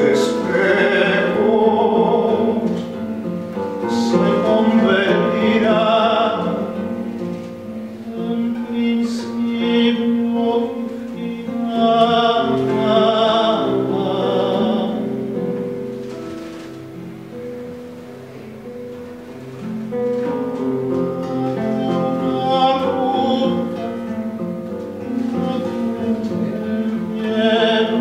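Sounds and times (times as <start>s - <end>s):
person singing with vibrato: 0.0s - 17.0s, 20.4s - 28.0s
guitar accompaniment: 0.0s - 28.0s.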